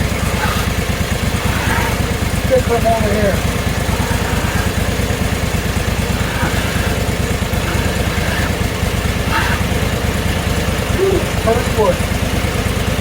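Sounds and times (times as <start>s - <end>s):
petrol engine idling: 0.0s - 13.0s.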